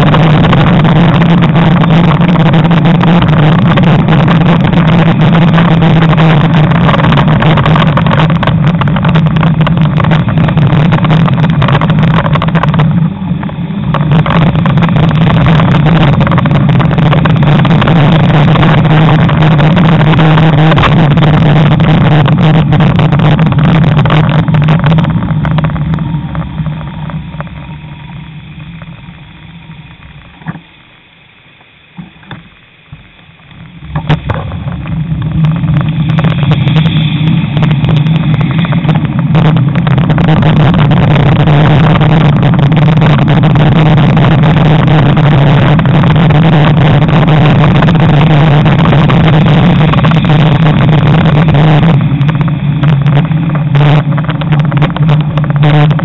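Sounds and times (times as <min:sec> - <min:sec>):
wind buffeting microphone: 0:00.0 - 0:31.0, 0:32.0 - 0:56.0.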